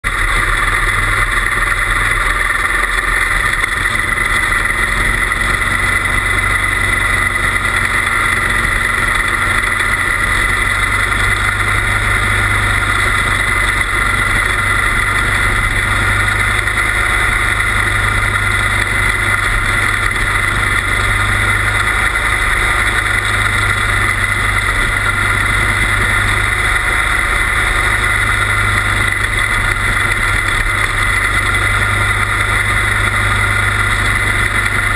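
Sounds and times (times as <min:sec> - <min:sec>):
small race car engine running: 0:00.0 - 0:34.9.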